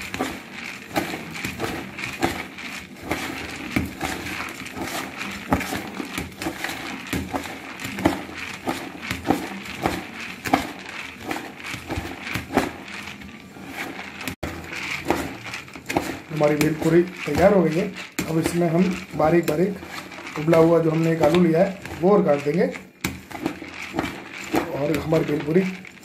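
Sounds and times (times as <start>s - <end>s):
puffed rice rustling: 0.0s - 26.0s.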